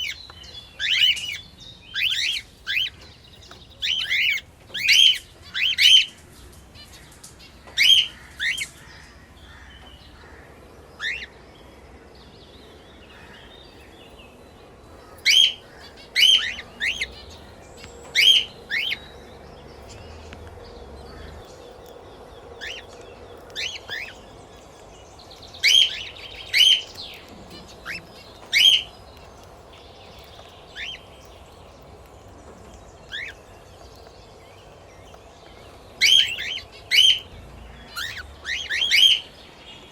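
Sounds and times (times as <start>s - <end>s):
parrots chirping: 0.0s - 39.9s
faint background chatter: 1.2s - 38.5s.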